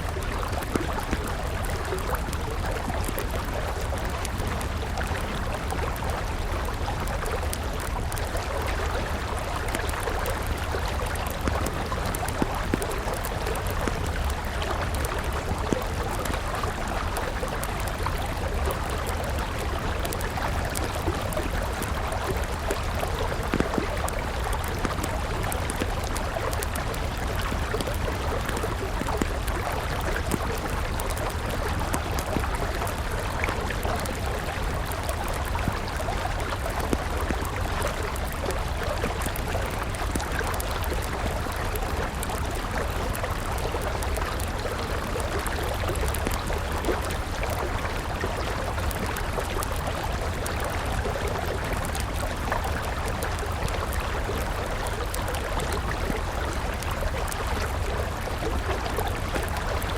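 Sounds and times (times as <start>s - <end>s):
river water flowing: 0.0s - 59.9s
wood fire crackling: 0.0s - 59.9s.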